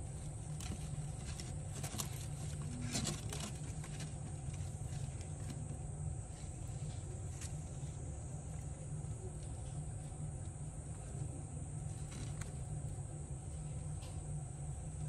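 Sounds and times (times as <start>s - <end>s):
electrical hum: 0.0s - 15.0s
faint clicks and rustles: 0.0s - 15.0s.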